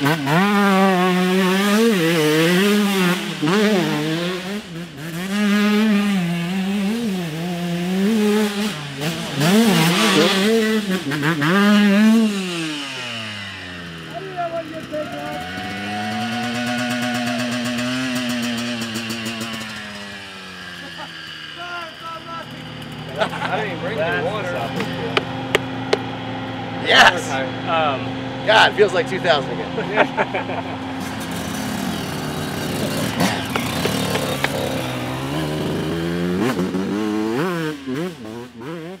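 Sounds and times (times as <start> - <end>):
two-stroke engine at high revs: 0.0 - 39.0.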